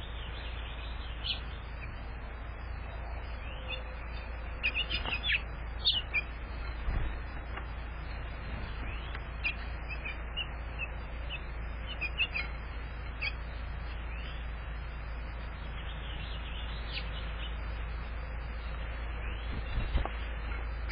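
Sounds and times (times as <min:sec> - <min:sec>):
finches chirping: 0:00.0 - 0:20.9
steady low hum: 0:00.0 - 0:20.9.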